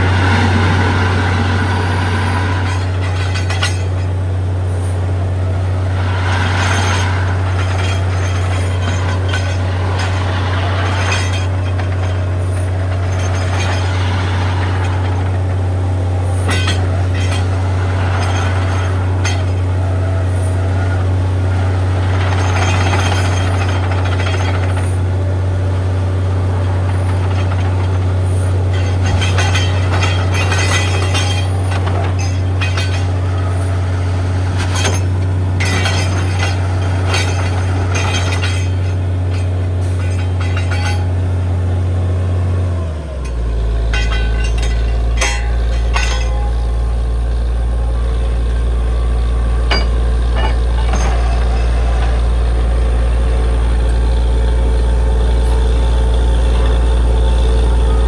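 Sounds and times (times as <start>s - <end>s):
drilling rig deep hum: 0.0s - 58.0s
rushing noise: 0.0s - 58.0s.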